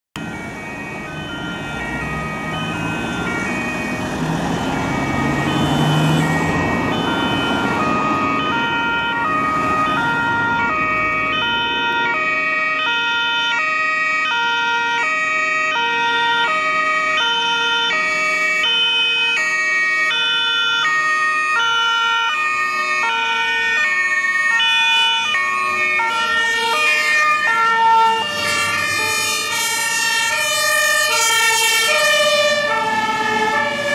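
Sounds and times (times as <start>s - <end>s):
truck engines rumbling: 0.2s - 33.9s
two-tone fire engine sirens: 0.2s - 33.9s.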